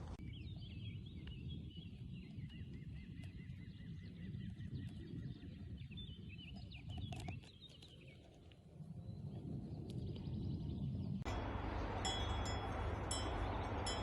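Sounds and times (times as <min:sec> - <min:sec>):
low wind rumble: 0:00.0 - 0:14.0
small birds chirping: 0:00.0 - 0:14.0.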